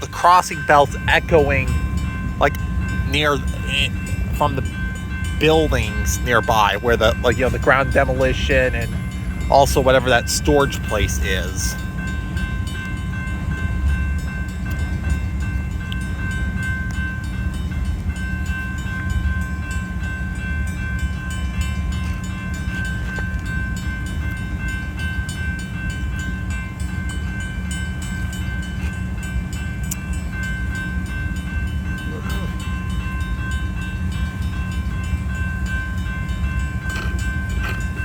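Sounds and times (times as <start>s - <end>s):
crossing signal bells ringing: 0.0s - 38.0s
freight train cars rumbling: 0.0s - 38.0s.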